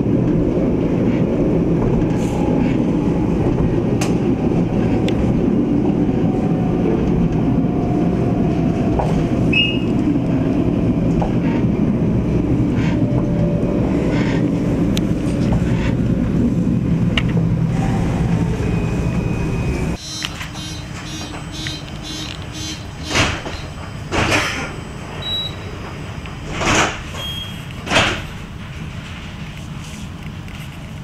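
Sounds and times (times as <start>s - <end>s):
tram car humming: 0.0s - 31.0s
tram rolling low rumble: 0.0s - 31.0s.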